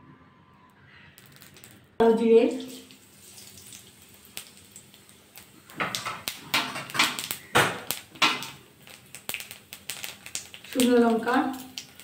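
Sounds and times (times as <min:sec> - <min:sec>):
seeds crackling in hot oil: 0:00.9 - 0:12.0.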